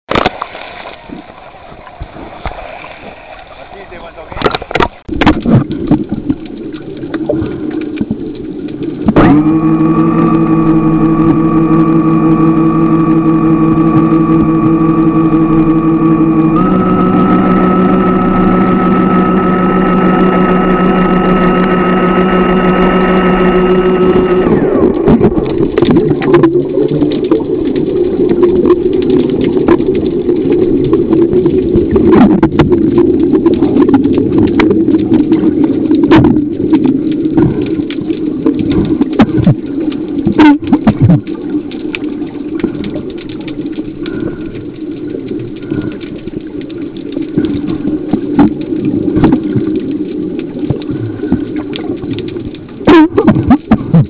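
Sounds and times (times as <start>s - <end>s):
clicks and knocks underwater: 0.1s - 54.0s
scuba exhaust bubbles: 4.4s - 54.0s
electric motor whine underwater: 9.0s - 53.9s.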